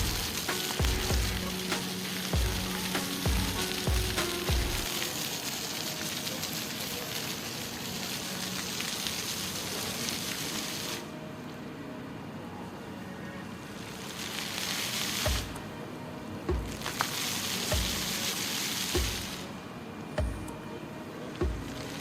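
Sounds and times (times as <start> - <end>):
fountain water splashing: 0.0 - 11.7, 12.7 - 20.1.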